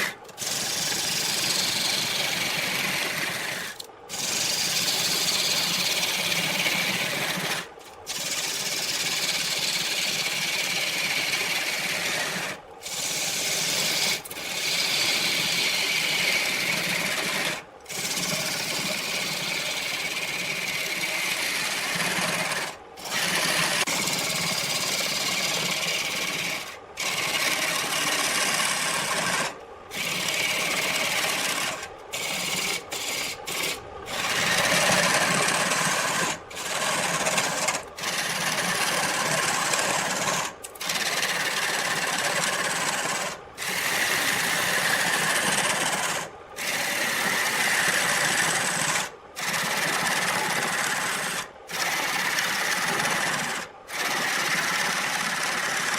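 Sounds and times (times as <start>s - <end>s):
lathe tool scraping wood: 0.0s - 55.9s.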